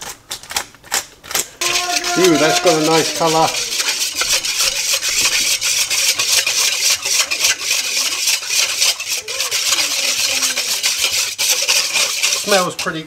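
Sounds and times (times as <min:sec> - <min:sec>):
whisk scraping metal bowl: 0:01.6 - 0:13.0.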